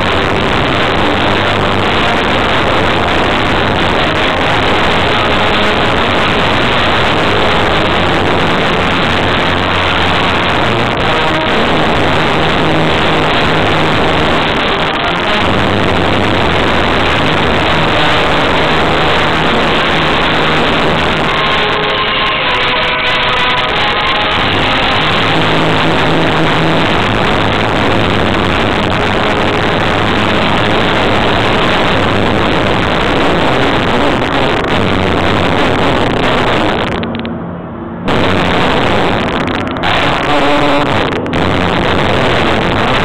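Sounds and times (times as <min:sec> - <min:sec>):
distorted loudspeaker music: 0:00.0 - 0:37.4, 0:38.0 - 0:43.0.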